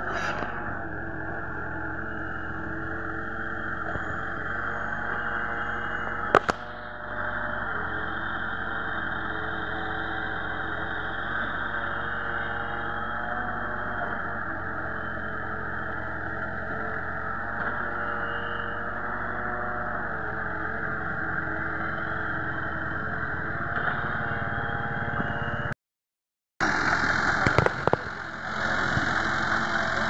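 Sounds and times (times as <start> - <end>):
excavator engine running: 0.0 - 25.8, 26.6 - 30.0.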